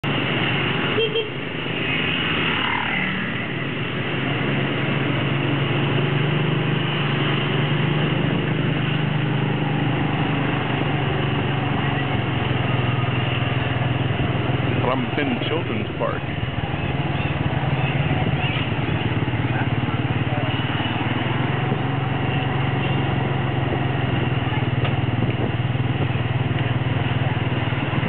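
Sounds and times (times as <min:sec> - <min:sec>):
vehicle engine hum and road noise: 0:00.0 - 0:28.0.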